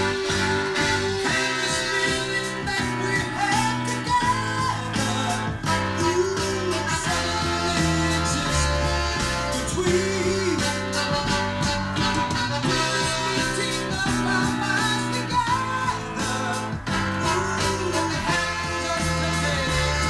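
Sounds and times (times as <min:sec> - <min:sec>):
song with singing voice: 0:00.0 - 0:20.0.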